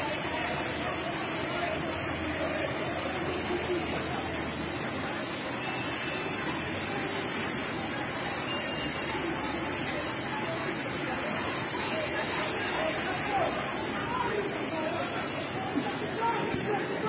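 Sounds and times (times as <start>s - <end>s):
floodwater rushing down steps: 0.0s - 17.0s.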